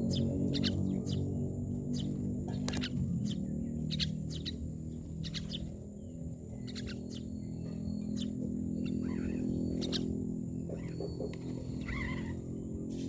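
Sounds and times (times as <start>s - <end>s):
myna birds chirping: 0.0s - 13.0s
steady low hum: 0.0s - 13.0s.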